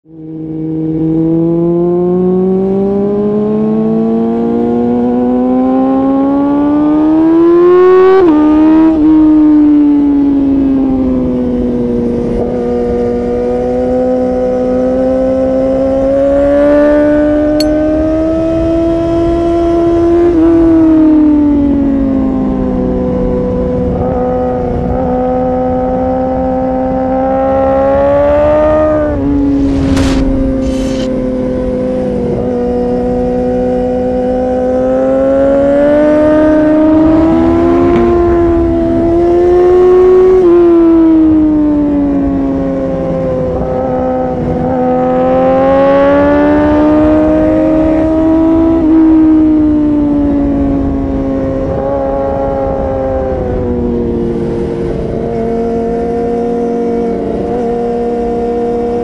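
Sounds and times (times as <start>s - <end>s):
motorcycle engine revving: 0.1s - 9.4s, 10.0s - 21.0s, 22.8s - 59.0s.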